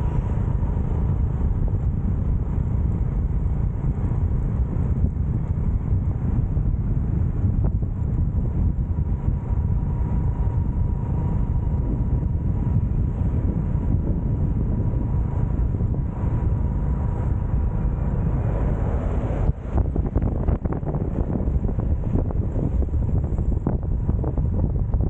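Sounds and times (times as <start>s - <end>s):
faint steady whine: 0.0s - 25.0s
motorcycle engine and road rumble: 0.0s - 25.0s
wind buffeting microphone: 0.0s - 25.0s.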